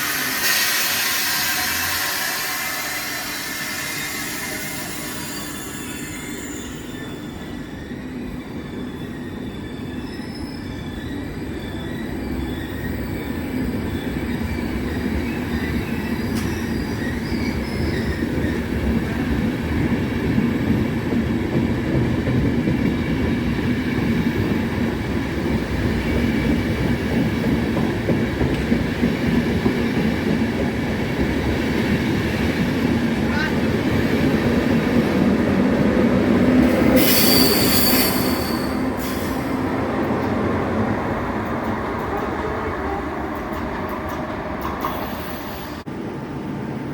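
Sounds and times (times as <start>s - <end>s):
train rumbling along rails: 0.0s - 46.9s.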